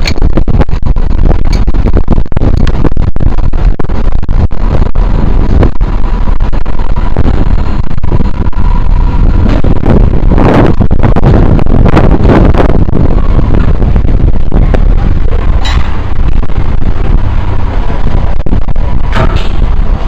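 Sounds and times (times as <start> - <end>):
loud low rumbling: 0.0 - 20.0.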